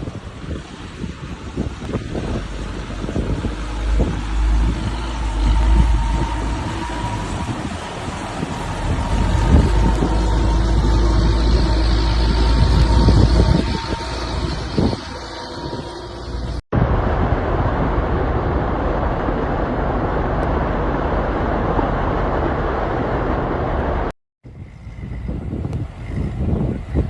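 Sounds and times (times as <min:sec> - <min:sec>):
floodwater rushing: 0:00.0 - 0:24.1
low rumble: 0:00.0 - 0:27.0.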